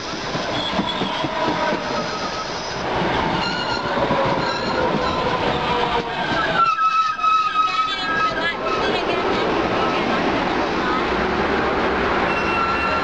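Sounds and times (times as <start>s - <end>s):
subway train rolling past: 0.0s - 13.0s.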